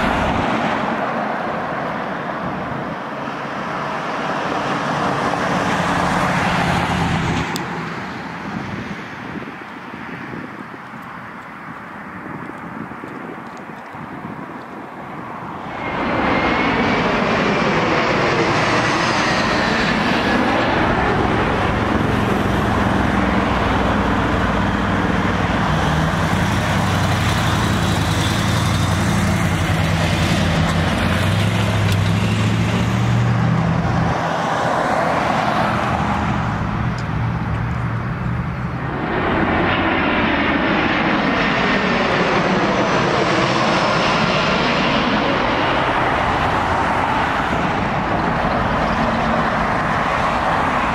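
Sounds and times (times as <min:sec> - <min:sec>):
jet airliner engines: 0:00.0 - 0:50.9.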